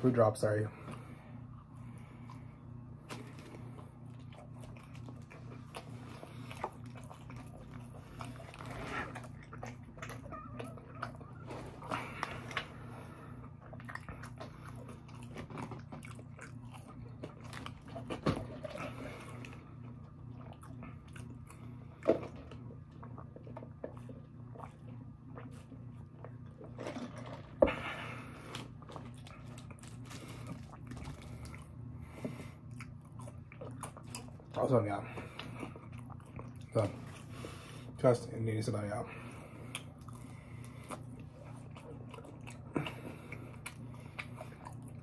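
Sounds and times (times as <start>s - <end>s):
chewing and biting food: 0.7s - 38.1s, 39.1s - 45.0s.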